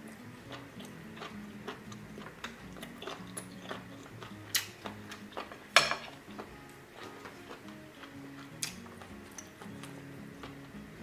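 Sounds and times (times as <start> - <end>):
wet chewing and mouth clicks: 0.0 - 11.0.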